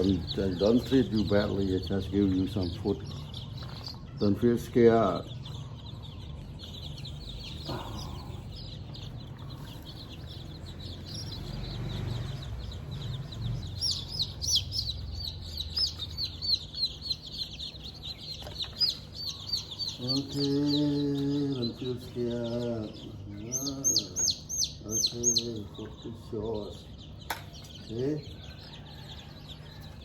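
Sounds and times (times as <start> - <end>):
baby chicks peeping: 0.0 - 30.0.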